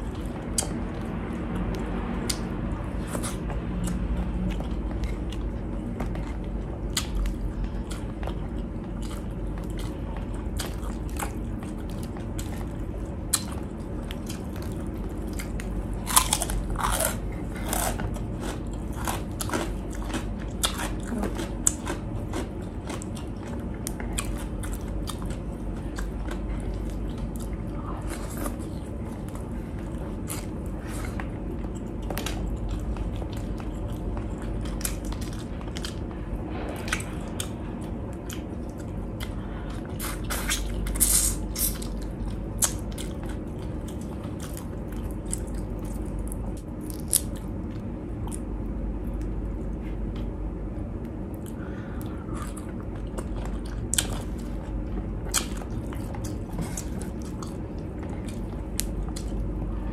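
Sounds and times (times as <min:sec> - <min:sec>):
chewing rice and vegetables: 0:00.0 - 0:59.9
loud crunching of pork rind: 0:00.1 - 0:48.6, 0:51.1 - 0:59.6.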